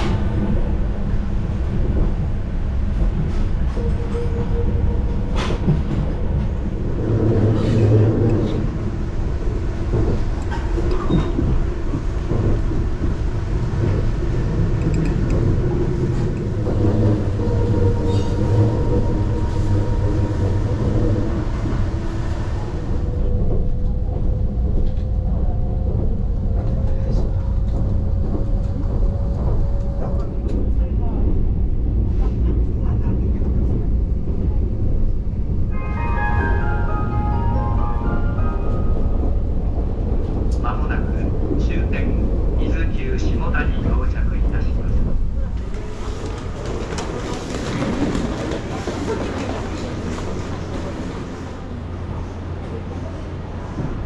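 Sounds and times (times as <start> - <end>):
train carriage rumble: 0.0 - 54.0.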